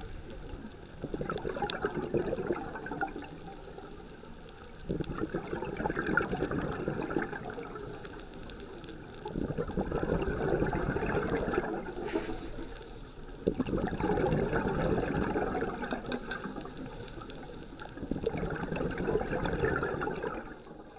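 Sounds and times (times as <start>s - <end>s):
underwater exhaled bubbles: 0.0s - 20.9s.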